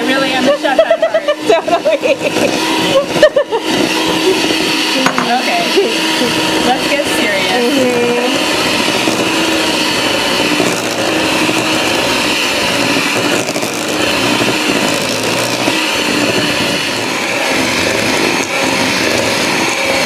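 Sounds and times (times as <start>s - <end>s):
electric hand mixer running: 0.0s - 20.0s.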